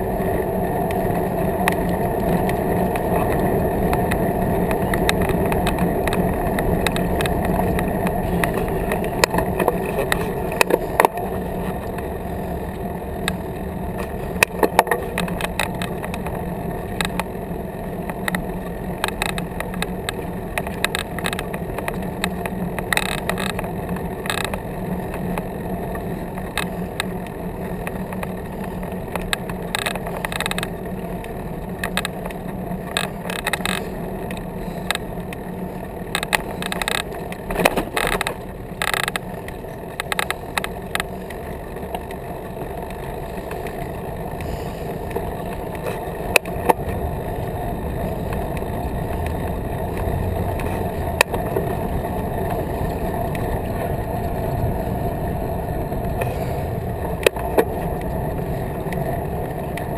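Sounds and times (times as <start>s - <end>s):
bicycle rolling on pavement: 0.0s - 59.9s
bike clicking and rattling: 0.0s - 59.9s.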